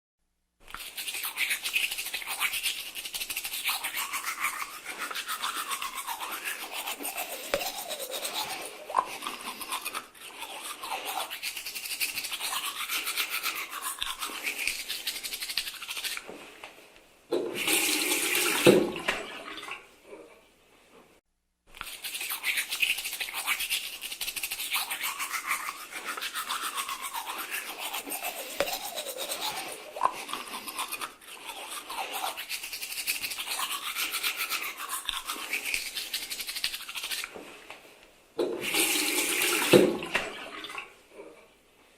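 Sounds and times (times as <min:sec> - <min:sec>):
toothbrush scrubbing teeth: 0:00.6 - 0:16.6, 0:17.6 - 0:19.7, 0:21.7 - 0:37.8, 0:38.5 - 0:40.9.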